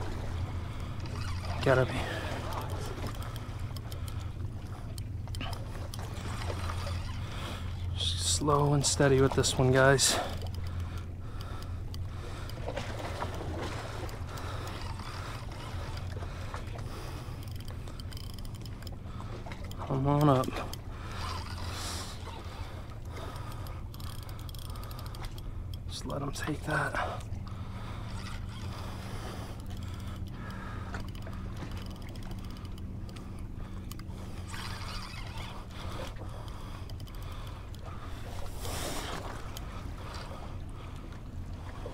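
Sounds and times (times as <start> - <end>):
boat engine drone: 0.0 - 41.9
wash of wind and water: 0.0 - 41.9
fishing reel clicking: 0.6 - 12.6, 14.0 - 40.4.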